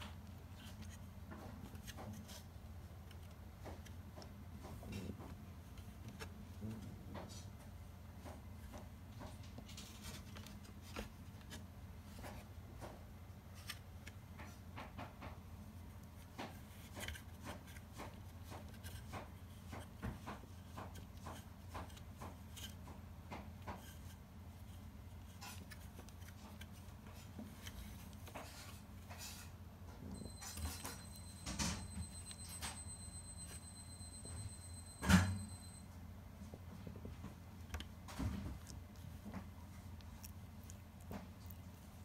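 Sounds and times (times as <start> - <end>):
low room hum: 0.0 - 42.0.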